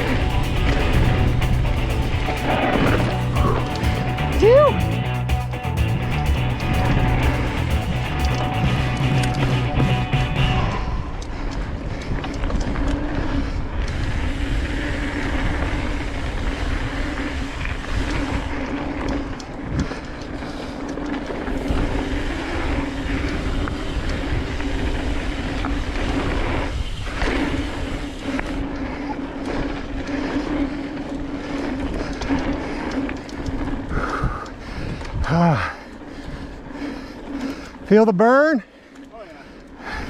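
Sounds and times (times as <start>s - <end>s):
wind rumble on microphone: 0.0s - 37.4s
mountain bike tyres humming and rattling: 0.0s - 40.0s.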